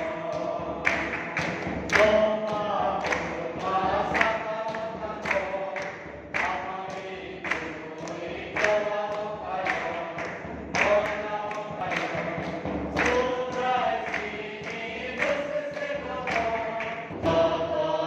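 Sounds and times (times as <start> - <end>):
congregation singing a hymn: 0.0 - 18.0
drum beat: 0.0 - 18.0.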